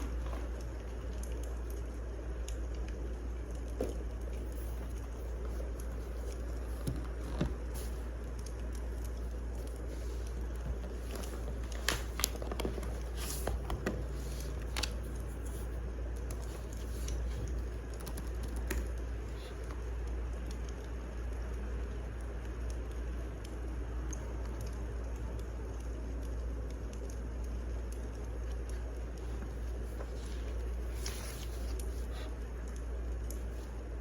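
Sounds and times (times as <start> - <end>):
low rumble and hiss: 0.0 - 34.0
wood fire crackling: 0.0 - 34.0.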